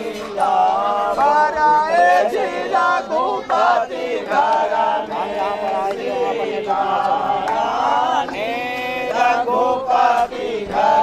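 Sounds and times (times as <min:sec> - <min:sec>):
voices singing a chant: 0:00.0 - 0:11.0.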